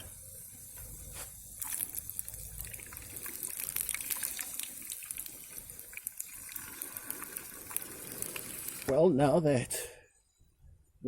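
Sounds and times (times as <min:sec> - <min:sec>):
hot blade sizzling in liquid: 0:00.0 - 0:09.0.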